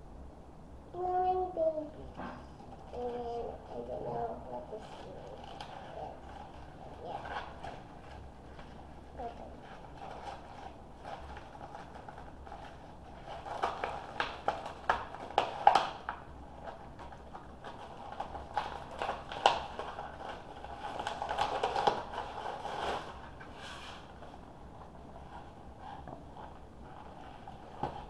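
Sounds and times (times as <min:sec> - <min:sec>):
plastic packaging crinkling: 0:04.7 - 0:28.0.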